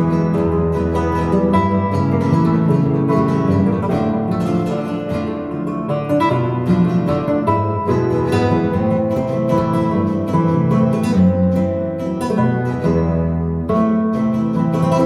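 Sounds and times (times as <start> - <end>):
flamenco guitar music: 0.0 - 15.0.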